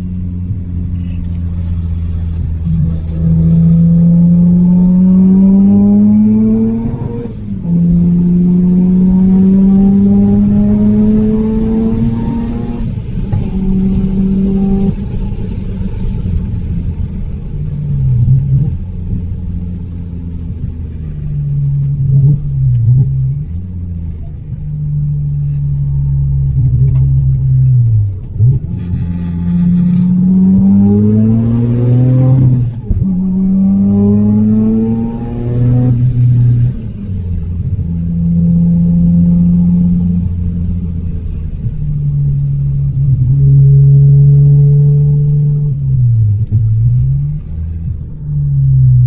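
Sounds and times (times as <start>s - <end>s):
high turbo whine: 0.0s - 49.0s
rotary engine driven hard: 0.0s - 49.0s.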